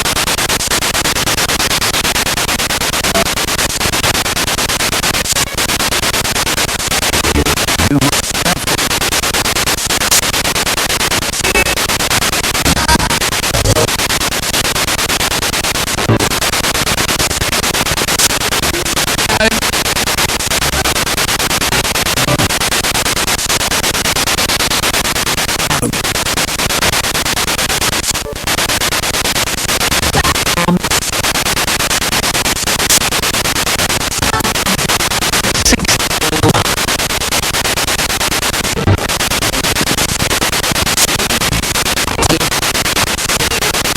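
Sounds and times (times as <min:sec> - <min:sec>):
radio static hiss: 0:00.0 - 0:43.9
snatches of radio broadcasts: 0:00.0 - 0:43.9.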